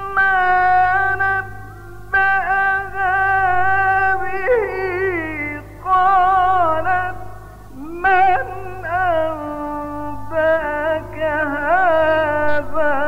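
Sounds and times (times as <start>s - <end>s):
man chanting recitation: 0.0s - 13.0s
steady low hum: 0.0s - 13.0s.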